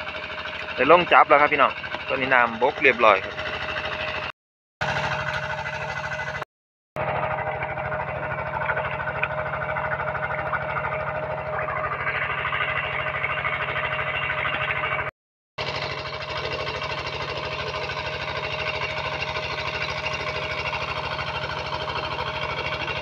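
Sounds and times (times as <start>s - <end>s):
steady whine: 0.0s - 6.4s, 7.0s - 23.0s
water pump engine knocking: 0.0s - 6.4s, 7.0s - 23.0s.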